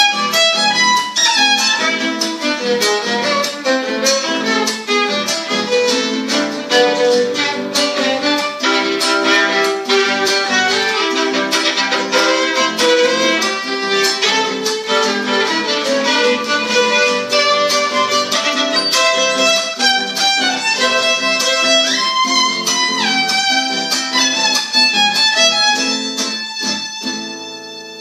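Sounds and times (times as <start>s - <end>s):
acoustic guitar strumming: 0.0s - 28.0s
bowed violin melody: 0.0s - 28.0s.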